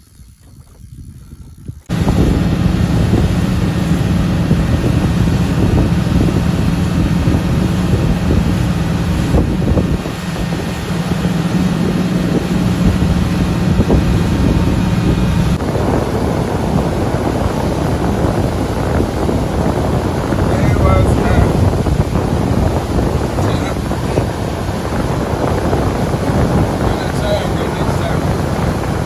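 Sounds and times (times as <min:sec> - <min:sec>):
wind buffeting microphone: 0:00.0 - 0:29.0
water noise: 0:01.7 - 0:29.0
motorboat engine humming: 0:01.8 - 0:29.0.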